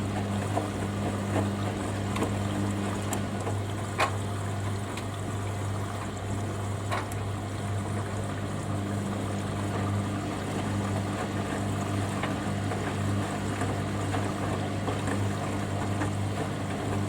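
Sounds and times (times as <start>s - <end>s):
washing machine humming: 0.0s - 17.0s
water splashing in washing machine: 0.0s - 17.0s.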